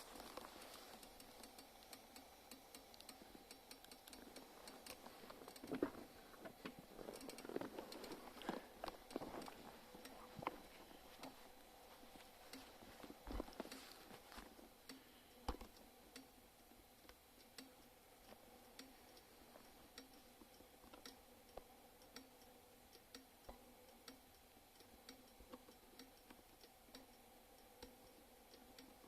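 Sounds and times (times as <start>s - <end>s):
faint sharp ticking: 0.0s - 29.0s
faint steady hum: 0.0s - 29.0s.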